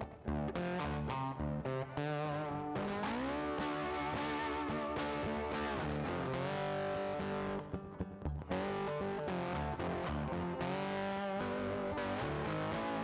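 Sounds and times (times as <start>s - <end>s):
distorted electric guitar music: 0.0s - 13.0s.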